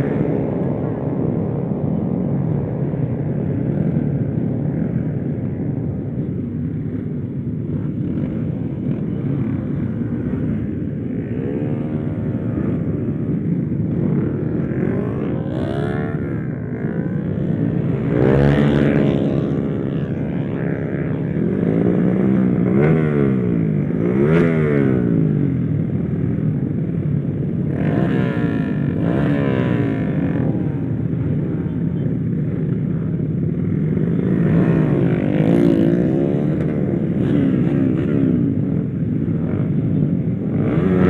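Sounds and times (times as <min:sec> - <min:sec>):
motorcycle engine revving: 0:07.9 - 0:41.0.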